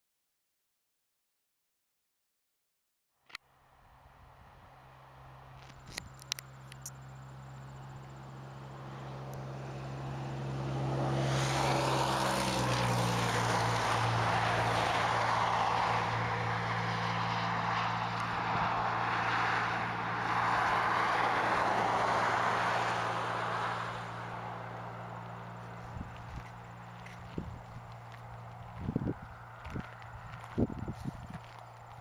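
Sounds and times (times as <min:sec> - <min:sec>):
highway traffic passing: 0:03.4 - 0:32.0.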